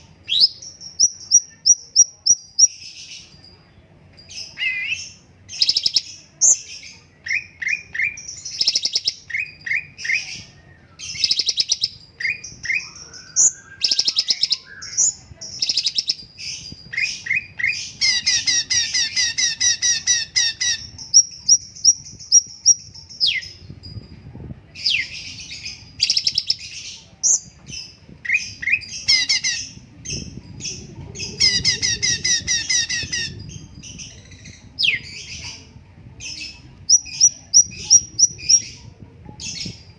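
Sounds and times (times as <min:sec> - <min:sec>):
songbird singing trills and chirps: 0:00.0 - 0:39.9.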